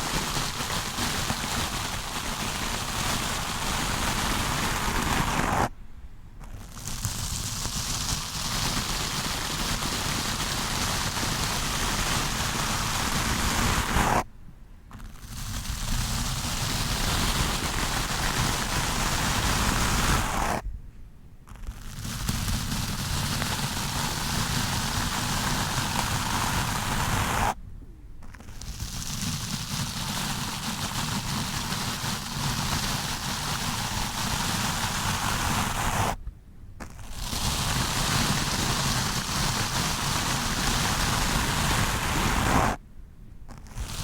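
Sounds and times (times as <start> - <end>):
brush rubbing on microphone: 0.0 - 5.7, 6.4 - 14.3, 14.9 - 20.6, 21.5 - 27.6, 28.2 - 36.2, 36.8 - 42.8, 43.5 - 44.0.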